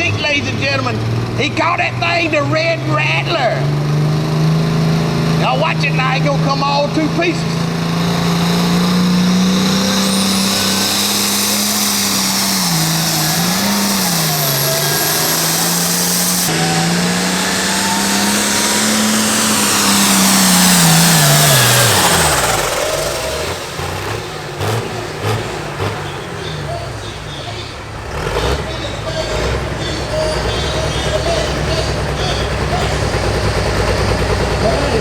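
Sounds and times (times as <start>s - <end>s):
engine popping: 0.0s - 35.0s
tractor diesel engine under load: 0.0s - 35.0s.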